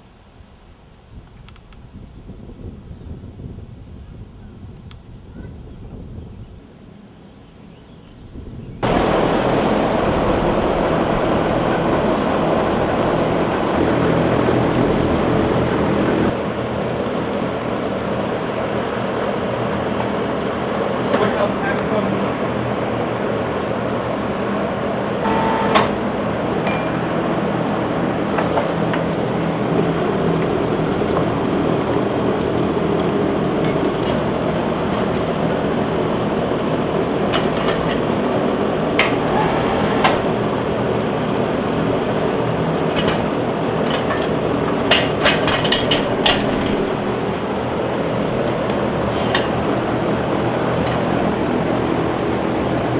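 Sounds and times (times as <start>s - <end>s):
mechanical whirring with low hum: 8.3s - 52.9s.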